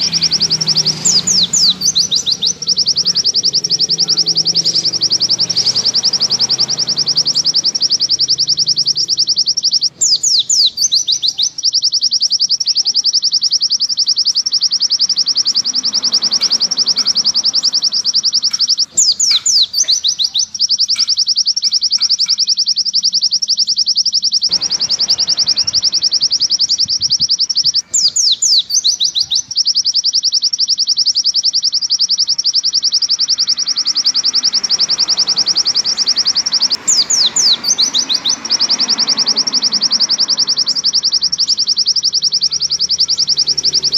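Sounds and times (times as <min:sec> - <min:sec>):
bird singing fast high notes: 0:00.0 - 0:43.9.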